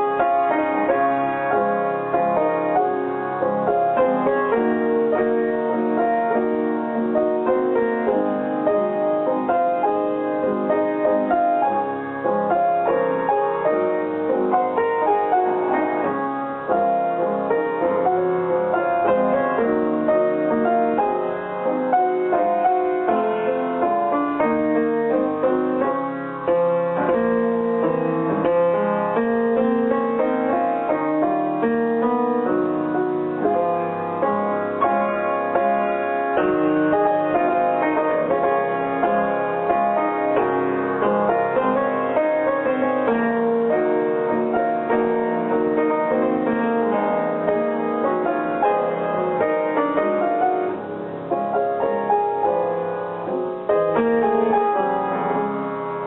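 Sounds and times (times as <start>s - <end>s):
piano music: 0.0s - 56.0s.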